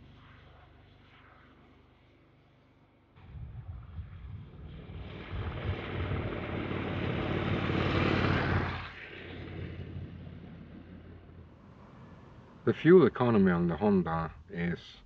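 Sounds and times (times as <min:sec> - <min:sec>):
motorcycle passing by: 0:00.0 - 0:12.7.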